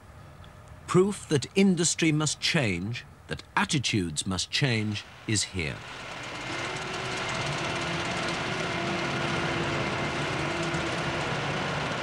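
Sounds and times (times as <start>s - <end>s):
machinery rumble: 0.2s - 12.0s
machinery whine: 0.9s - 12.0s.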